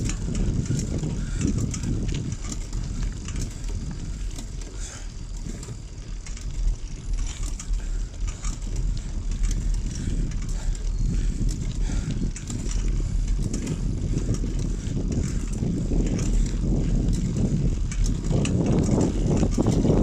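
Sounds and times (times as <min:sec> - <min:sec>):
bicycle freewheel ticking: 0:00.0 - 0:20.0
wind and tyres rumbling: 0:00.0 - 0:20.0.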